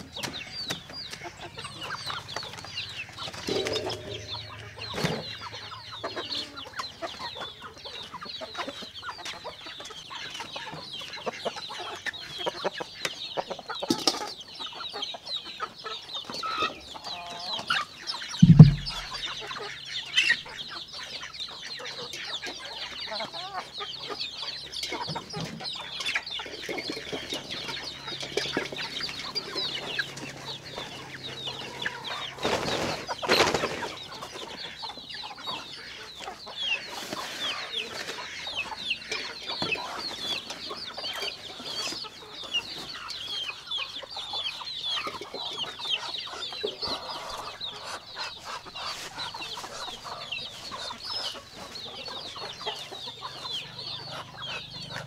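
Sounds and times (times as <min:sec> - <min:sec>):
chickens peeping and clucking: 0:00.0 - 0:55.0.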